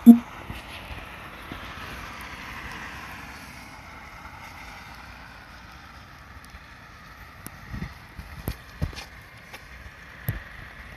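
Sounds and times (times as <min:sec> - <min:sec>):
outdoor hiss beside wet road: 0:00.2 - 0:10.9.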